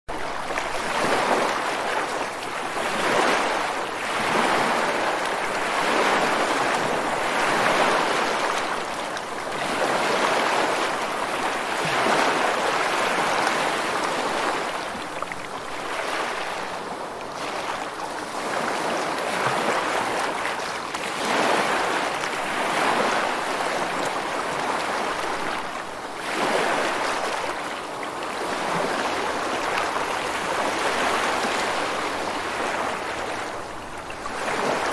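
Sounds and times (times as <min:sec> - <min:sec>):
waves breaking on shore: 0:00.1 - 0:34.9.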